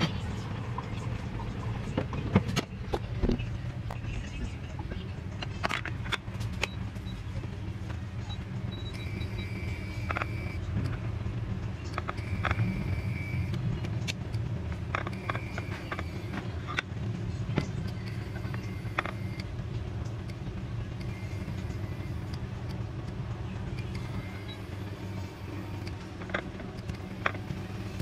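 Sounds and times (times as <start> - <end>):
high whine: 0.0 - 28.0
low kitchen hum: 0.0 - 28.0.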